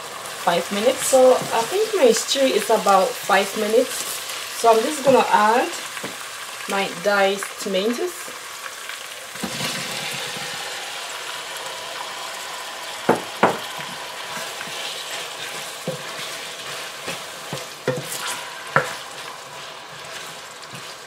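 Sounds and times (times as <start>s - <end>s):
tomatoes sizzling in hot oil: 0.0s - 21.0s.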